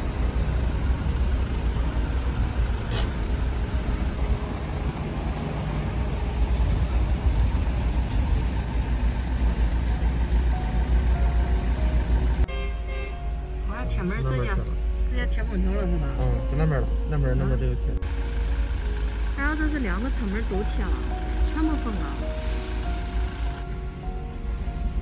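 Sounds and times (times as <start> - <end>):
car idling rumble: 0.0 - 12.5, 13.2 - 25.0.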